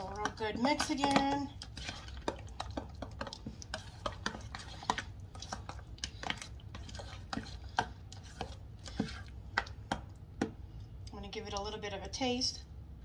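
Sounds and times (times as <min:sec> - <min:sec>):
spoon stirring in a metal bowl: 0:00.0 - 0:11.8.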